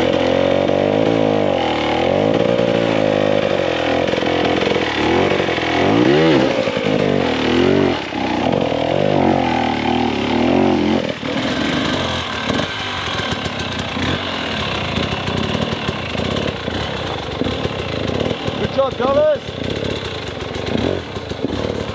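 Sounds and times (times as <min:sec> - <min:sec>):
dirt bike engines revving: 0:00.0 - 0:21.9.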